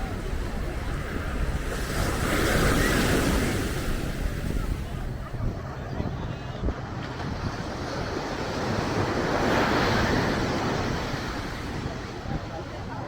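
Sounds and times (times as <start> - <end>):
ocean surf breaking: 0.0 - 5.5, 7.1 - 13.0
wind buffeting microphone: 0.0 - 13.0.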